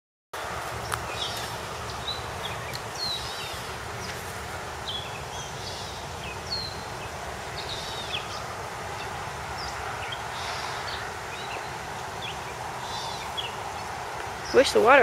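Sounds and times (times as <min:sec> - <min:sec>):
outdoor background hiss: 0:00.4 - 0:15.0
small birds chirping: 0:00.8 - 0:15.0.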